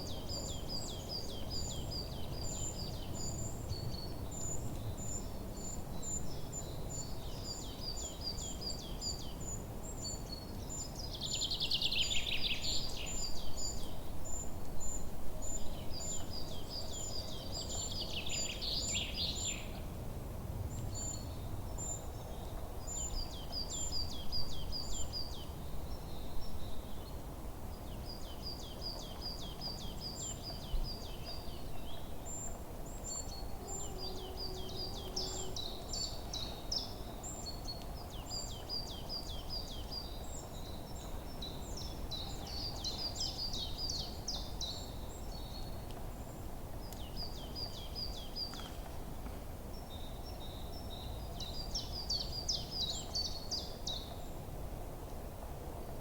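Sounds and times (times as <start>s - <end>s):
songbirds chirping: 0.0s - 20.0s, 20.6s - 54.6s.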